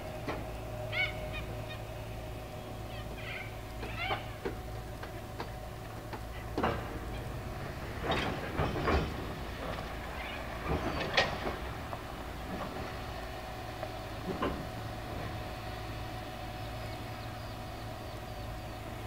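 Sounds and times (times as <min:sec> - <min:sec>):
low rumble of rolling wagons: 0:00.0 - 0:19.0.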